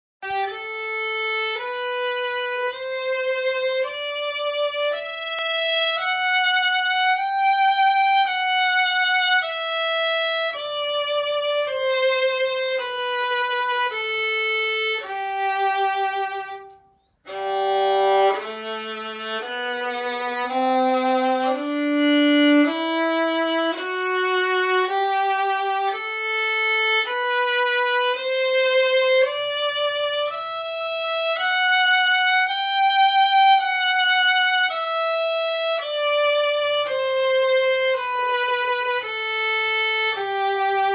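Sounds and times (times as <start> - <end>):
violin playing a scale: 0.2 - 40.9.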